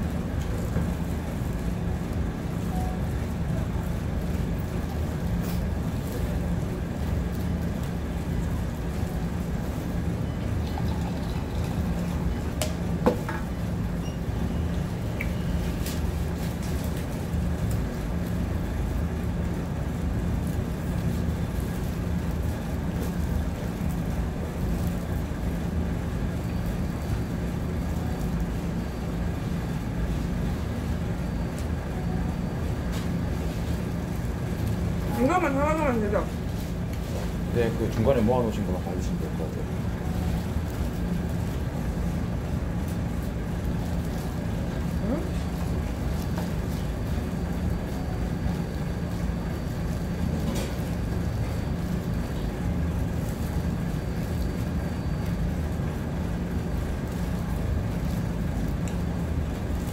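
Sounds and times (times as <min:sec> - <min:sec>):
low room hum and rumble: 0:00.0 - 0:59.9.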